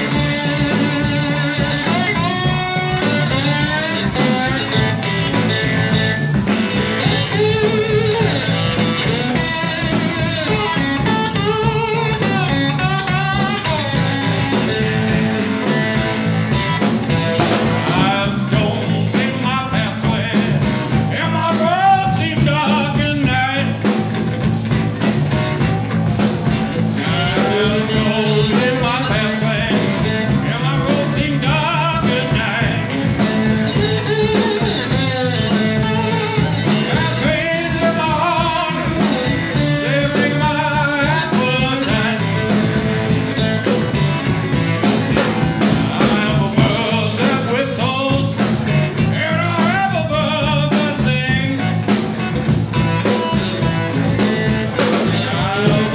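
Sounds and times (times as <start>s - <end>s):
electric bass: 0.0s - 55.9s
electric slide guitar: 0.0s - 55.9s
steady drum beat: 0.0s - 55.9s.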